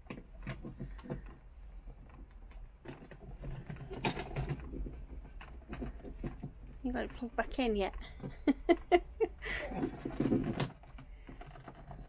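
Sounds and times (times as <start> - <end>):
clicks knocks and rattles: 0.0 - 9.1, 9.8 - 12.0.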